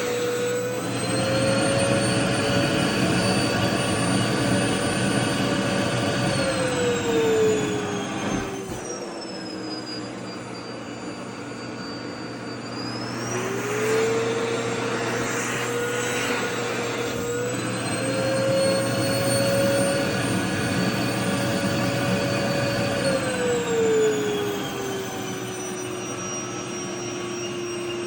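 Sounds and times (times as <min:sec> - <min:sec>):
vacuum cleaner motor whine: 0:00.0 - 0:28.0.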